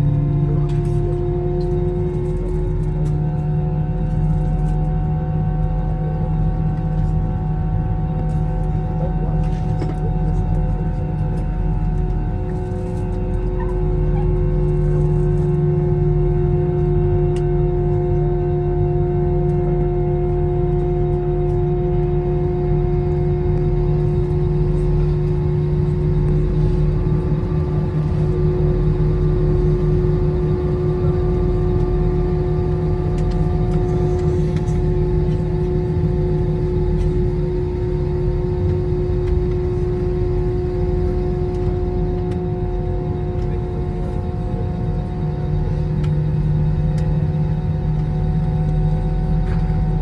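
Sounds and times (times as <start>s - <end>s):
jet engines rumbling in cabin: 0.0s - 50.0s.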